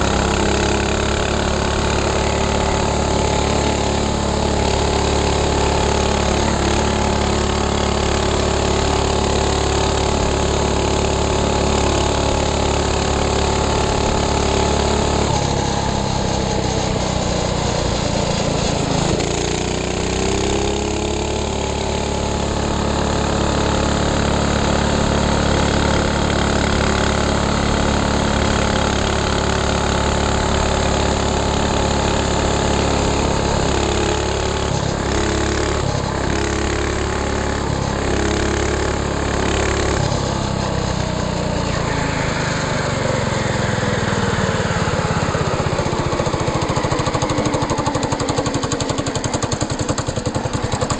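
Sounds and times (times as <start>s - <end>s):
minibike engine running: 0.0s - 50.9s.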